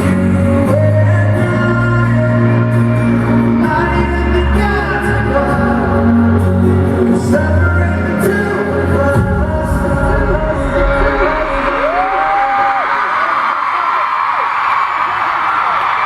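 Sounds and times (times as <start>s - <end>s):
live band playing: 0.0s - 12.9s
lead singer singing: 0.0s - 13.1s.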